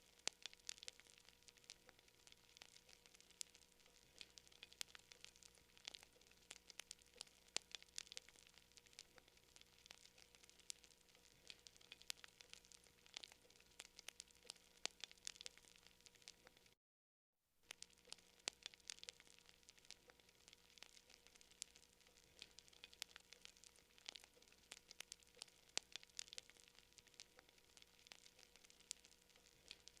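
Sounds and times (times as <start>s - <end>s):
faint campfire crackling: 0.0s - 16.8s, 17.6s - 30.0s.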